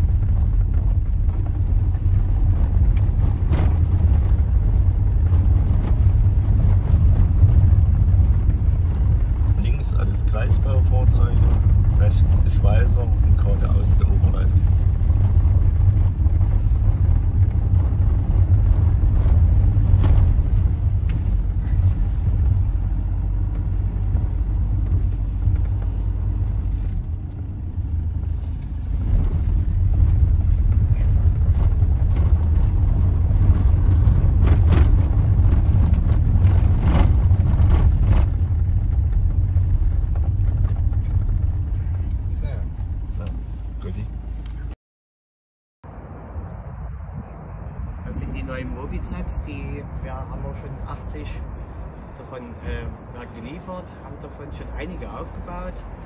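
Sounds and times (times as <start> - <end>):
car rumbling over cobblestones: 0.0 - 44.8, 45.9 - 56.0.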